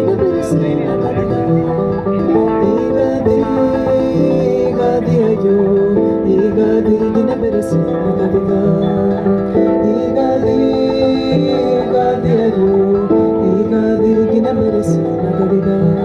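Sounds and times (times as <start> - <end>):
acoustic guitar music: 0.0 - 16.0
person singing: 0.0 - 16.0.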